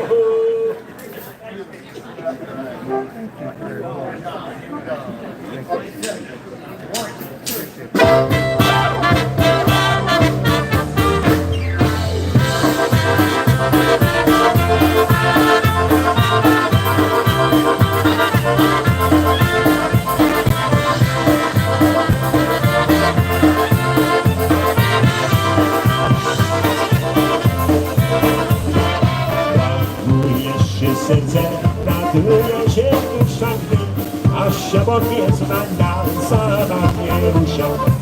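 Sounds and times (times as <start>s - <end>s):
polka band playing: 2.8s - 3.4s, 7.4s - 38.0s.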